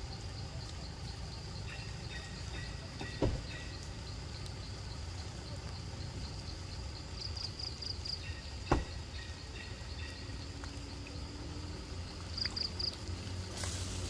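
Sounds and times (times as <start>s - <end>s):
insects chirping: 0.0s - 14.0s
low outdoor rumble: 0.0s - 14.0s.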